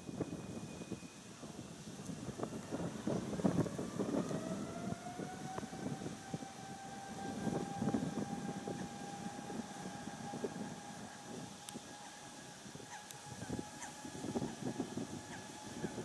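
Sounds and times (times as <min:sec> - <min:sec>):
jet engines spooling up: 0:00.0 - 0:16.0
wind on microphone: 0:00.0 - 0:16.0.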